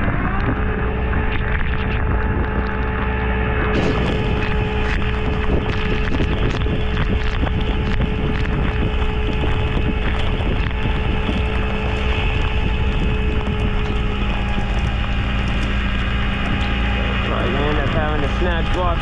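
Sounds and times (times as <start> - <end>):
truck engine running: 0.0 - 19.0
wind buffeting microphone: 3.6 - 19.0.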